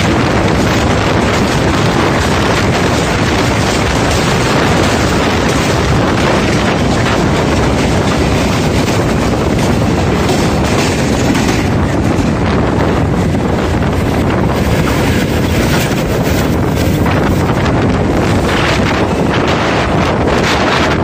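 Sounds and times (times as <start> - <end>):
train wheels clattering on rails: 0.0 - 21.0
wind buffeting microphone: 0.0 - 21.0.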